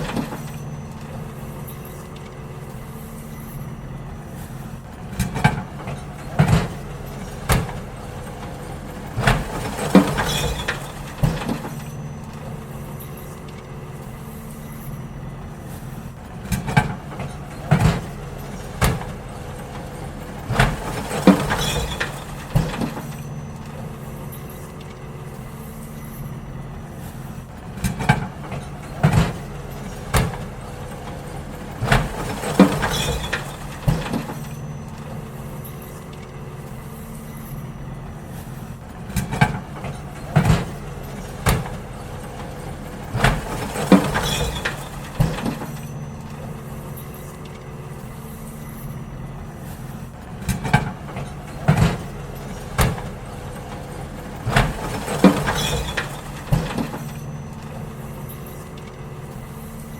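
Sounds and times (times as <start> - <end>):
bins clanking and banging: 0.0 - 59.9
garbage truck engine running: 0.0 - 59.9.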